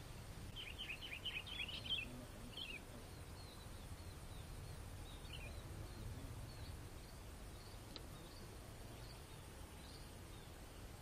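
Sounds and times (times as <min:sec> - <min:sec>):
low outdoor rumble: 0:00.0 - 0:11.0
small bird chirping: 0:00.0 - 0:11.0.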